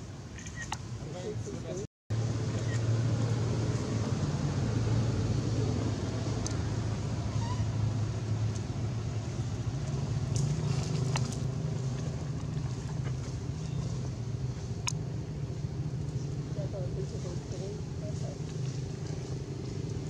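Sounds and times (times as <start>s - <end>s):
low engine hum: 0.0s - 20.0s
outdoor background noise: 0.0s - 20.0s.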